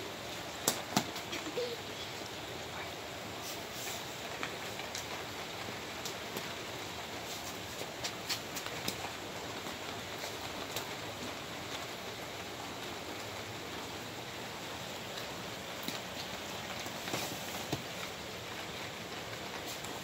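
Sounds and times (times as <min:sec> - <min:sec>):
rain on concrete: 0:00.0 - 0:20.0.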